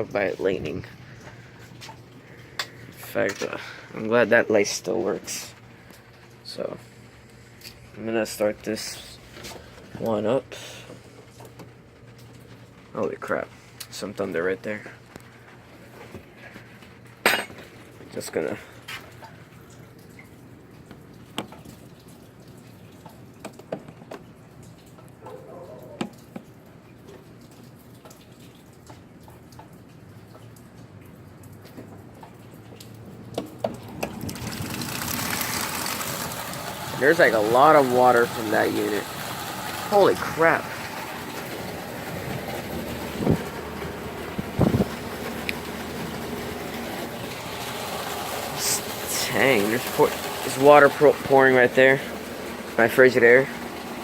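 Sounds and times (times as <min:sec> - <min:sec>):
air conditioner hum: 0:00.0 - 0:54.0
water dripping and splattering: 0:00.0 - 0:54.0.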